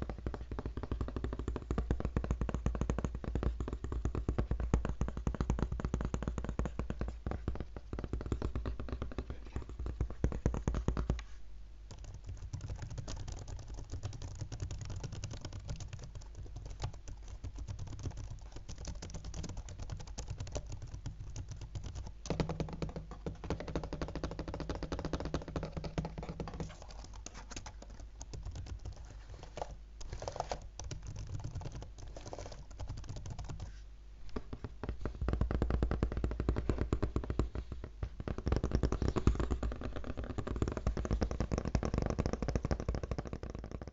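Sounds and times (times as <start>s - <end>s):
fingers typing on laptop keyboard: 0.0s - 11.3s, 11.9s - 33.8s, 34.4s - 43.9s.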